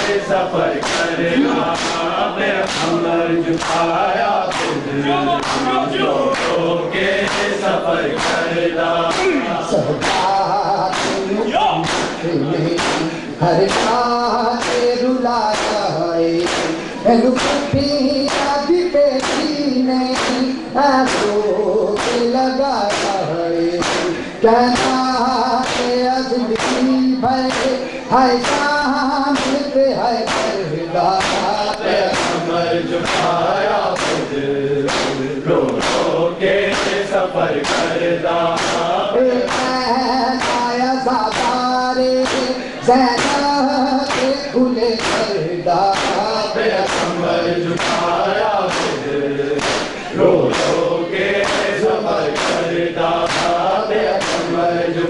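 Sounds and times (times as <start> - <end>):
hands slapping chests: 0.0 - 4.8, 5.4 - 6.6, 7.2 - 18.6, 19.2 - 21.4, 22.0 - 22.3, 22.9 - 23.2, 23.8 - 26.0, 26.6 - 27.8, 28.4 - 28.7, 29.3 - 36.1, 36.7 - 38.9, 39.5 - 40.7, 41.3 - 41.6, 42.2 - 43.5, 44.1 - 44.4, 45.0 - 50.8, 51.4 - 54.5
men chanting together: 0.0 - 55.0.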